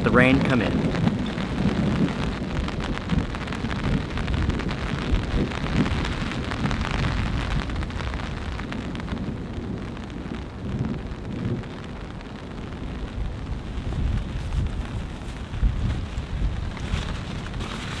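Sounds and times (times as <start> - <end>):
rain pattering on a tarp: 0.0 - 18.0.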